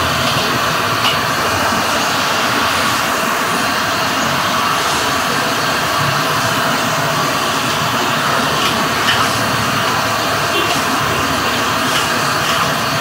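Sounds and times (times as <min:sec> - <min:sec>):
gas burner rushing: 0:00.0 - 0:13.0
vegetables sizzling in a wok: 0:00.0 - 0:13.0.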